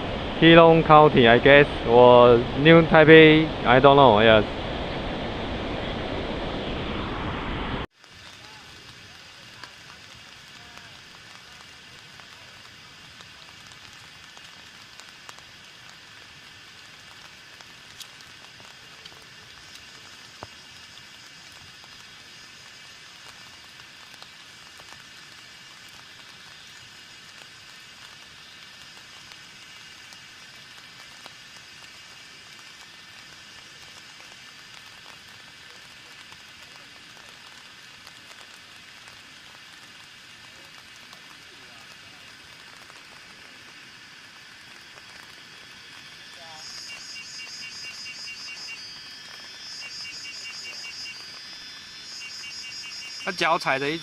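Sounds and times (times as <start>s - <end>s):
falling water rushing hiss: 0.0s - 54.0s.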